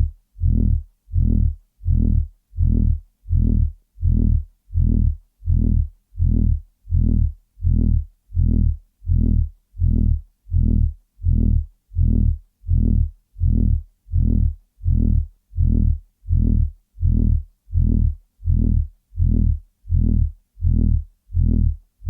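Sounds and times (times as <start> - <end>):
pulsing electronic throbbing: 0.0 - 21.8.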